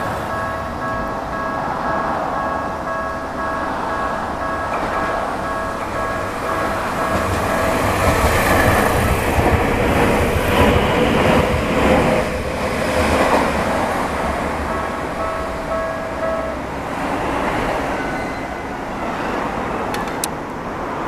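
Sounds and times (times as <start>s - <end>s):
train wheels clattering over rails: 0.0s - 18.1s
crossing warning bell: 0.0s - 20.3s.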